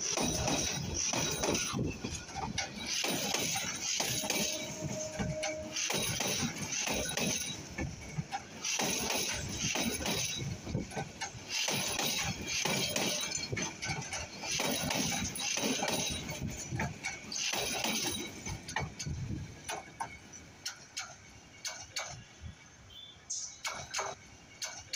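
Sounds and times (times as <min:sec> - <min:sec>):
train wheels clattering: 0:00.0 - 0:22.5, 0:23.3 - 0:24.9.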